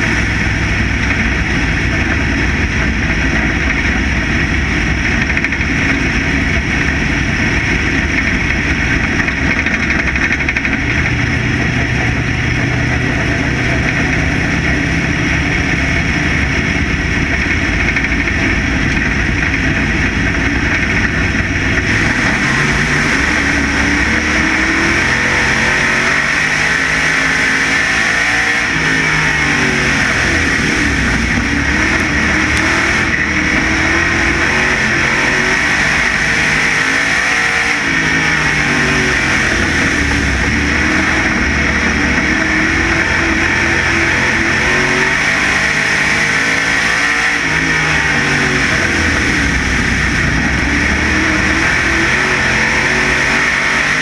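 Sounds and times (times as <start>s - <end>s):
race car engine running hard: 0.0s - 54.0s
road noise: 0.0s - 54.0s.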